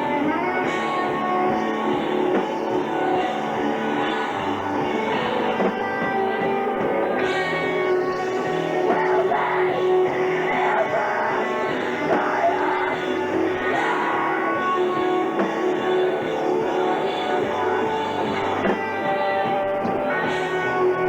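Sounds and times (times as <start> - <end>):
person singing: 0.0 - 21.0
rock band playing: 0.0 - 21.0.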